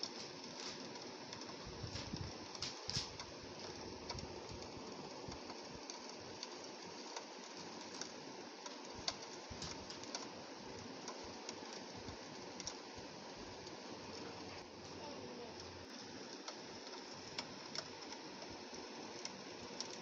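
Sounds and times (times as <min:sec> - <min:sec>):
rain on window glass: 0:00.0 - 0:20.0
raindrops ticking on glass: 0:00.0 - 0:20.0.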